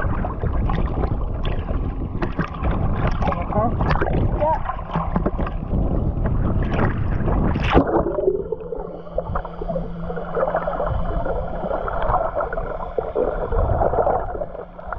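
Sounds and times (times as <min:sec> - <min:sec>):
water sloshing and gurgling: 0:00.0 - 0:14.9.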